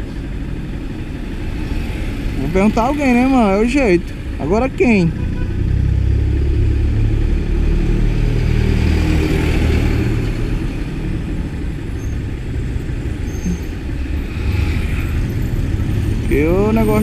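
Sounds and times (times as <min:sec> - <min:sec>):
traffic rumble: 0:00.0 - 0:17.0
vehicle passing by: 0:01.0 - 0:04.0, 0:05.0 - 0:17.0.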